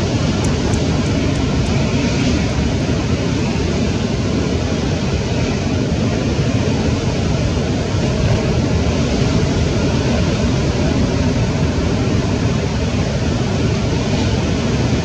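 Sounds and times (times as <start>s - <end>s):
ocean surf roaring: 0.0s - 15.0s.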